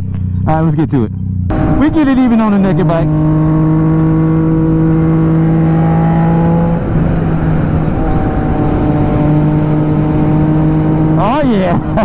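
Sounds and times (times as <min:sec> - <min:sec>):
motorcycle engine running: 0:00.0 - 0:12.0
wind noise: 0:01.5 - 0:12.0.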